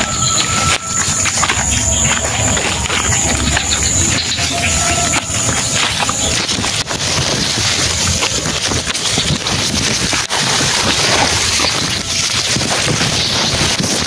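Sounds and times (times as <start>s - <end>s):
leaves rustling against microphone: 0.0s - 14.0s.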